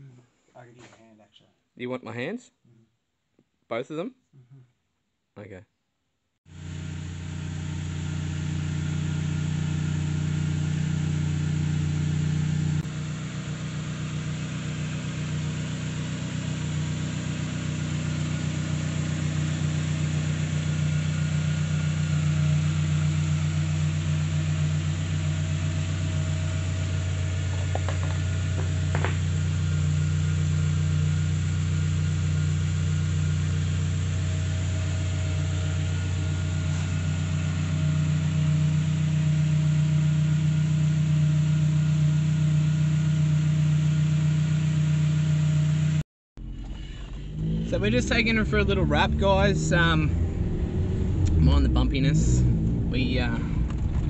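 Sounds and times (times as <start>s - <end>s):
car engine idling: 6.5s - 54.0s.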